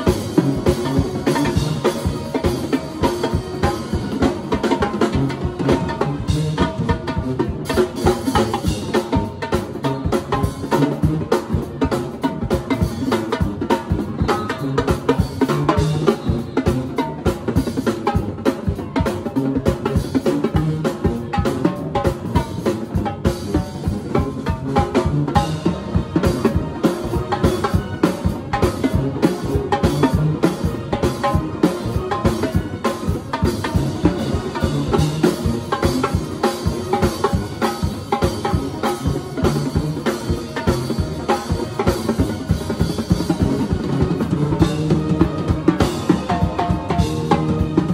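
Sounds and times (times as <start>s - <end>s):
drum kit played fast: 0.0s - 47.9s.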